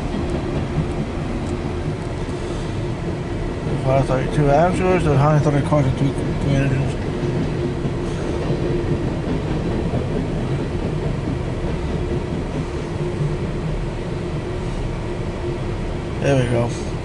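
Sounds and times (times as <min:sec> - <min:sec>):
train cars rolling on rails: 0:00.0 - 0:17.0.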